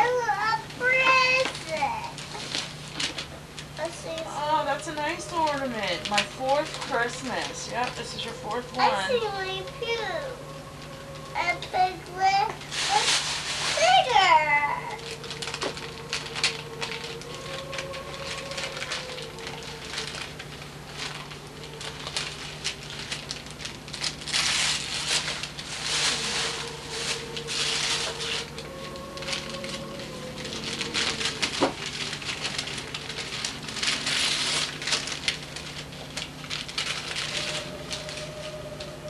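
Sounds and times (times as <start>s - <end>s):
wrapping paper crinkling and tearing: 0.0s - 39.0s.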